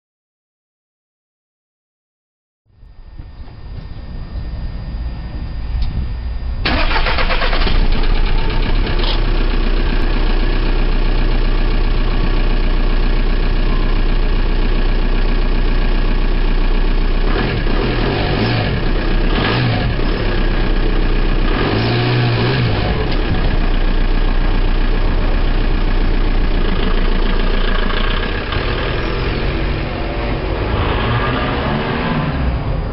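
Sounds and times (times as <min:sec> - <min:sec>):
diesel engine starting and idling: 0:02.8 - 0:32.9.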